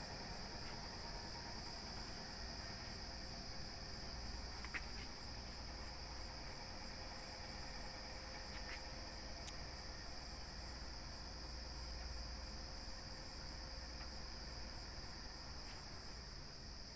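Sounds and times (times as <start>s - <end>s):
insects trilling: 0.0s - 16.9s.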